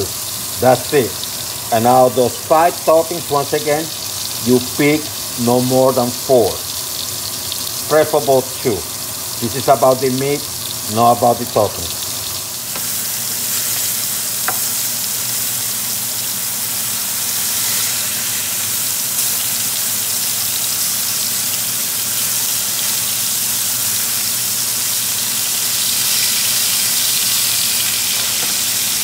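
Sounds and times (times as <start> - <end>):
burger patties sizzling: 0.0 - 29.0.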